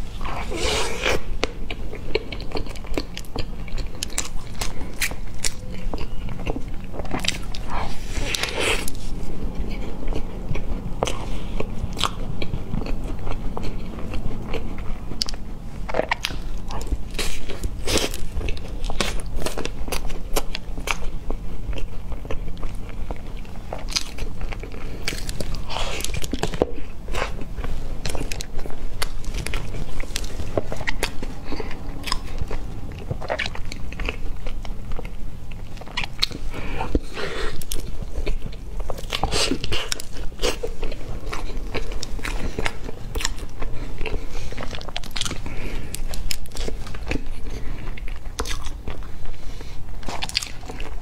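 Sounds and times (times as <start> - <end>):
crunchy pastry chewing: 0.0 - 51.0
low steady hum: 0.0 - 51.0.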